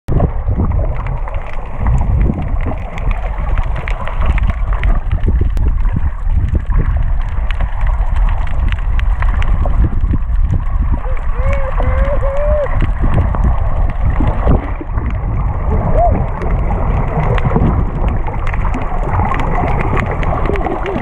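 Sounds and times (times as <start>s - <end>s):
muffled underwater rumble and gurgle: 0.1s - 21.0s
small underwater clicks and pops: 0.1s - 21.0s.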